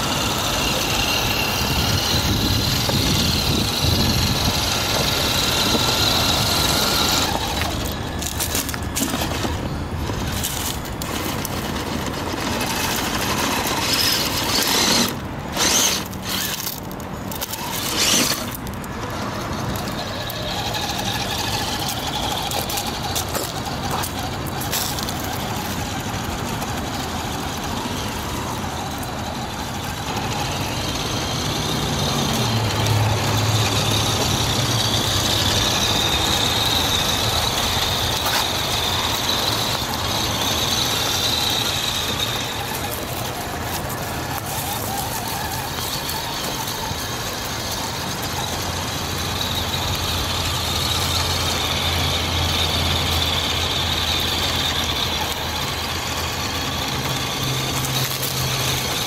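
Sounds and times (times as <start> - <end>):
rc car motor whining: 0.0 - 59.0
tyres scrabbling over dirt: 0.0 - 59.0.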